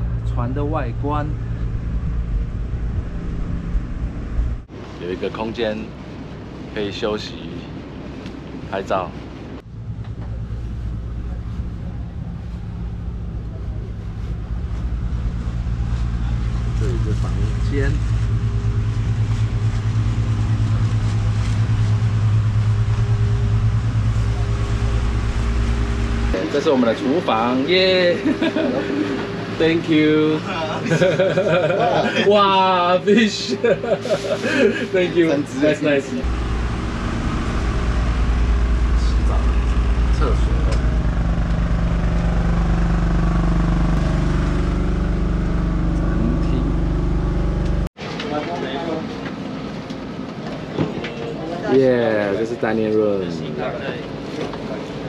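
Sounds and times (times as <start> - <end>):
boat engine machinery hum: 0.0 - 51.7, 52.3 - 55.0.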